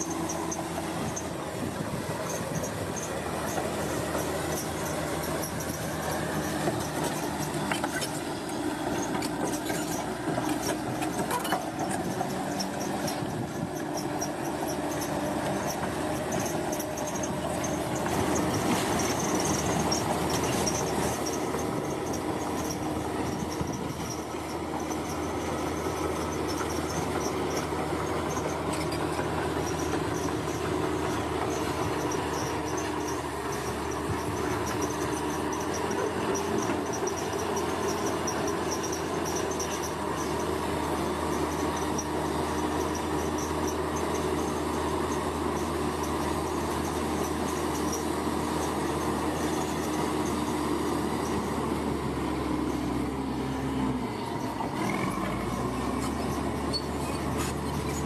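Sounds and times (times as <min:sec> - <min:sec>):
construction machinery engine drone: 0:00.0 - 0:58.0.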